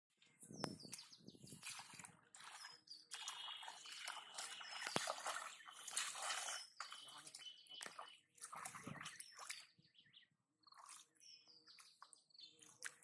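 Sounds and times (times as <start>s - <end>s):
bare feet walking in wet grass: 0.1s - 9.8s, 10.6s - 13.0s
splashes and squelches in mud: 0.1s - 13.0s.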